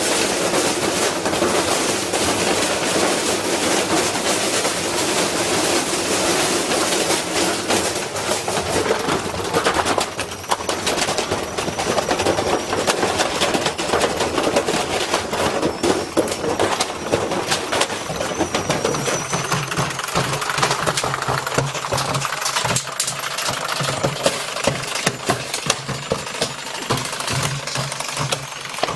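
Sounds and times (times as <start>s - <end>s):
washing machine metallic clatter: 0.0s - 28.9s.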